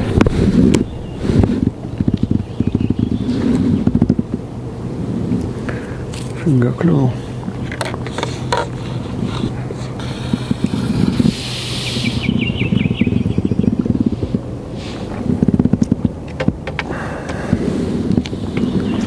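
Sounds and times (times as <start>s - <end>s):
rumbling handling noise: 0.0s - 19.0s.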